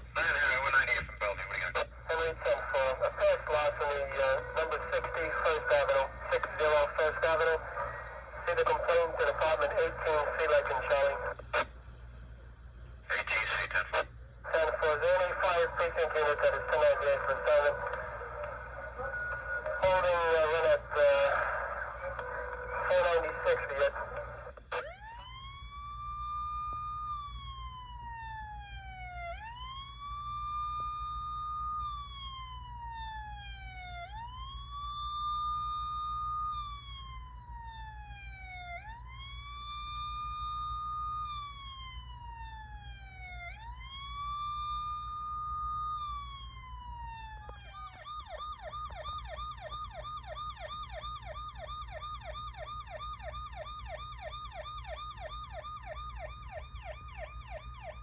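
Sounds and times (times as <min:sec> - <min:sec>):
emergency siren wailing: 0:00.0 - 0:12.5, 0:13.1 - 0:58.0.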